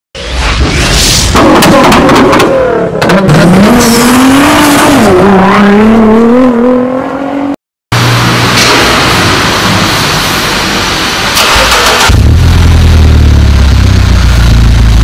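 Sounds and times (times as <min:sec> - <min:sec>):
car engine revving with crackles: 0:01.3 - 0:15.0.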